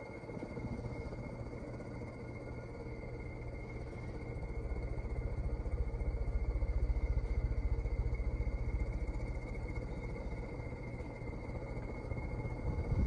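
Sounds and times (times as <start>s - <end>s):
ceiling fan motor humming: 0.0s - 13.0s.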